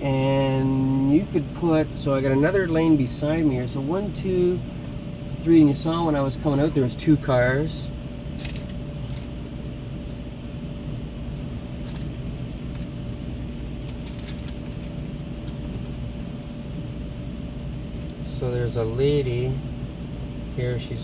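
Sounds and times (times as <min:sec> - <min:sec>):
vehicle cabin rumble and hum: 0:00.0 - 0:21.0.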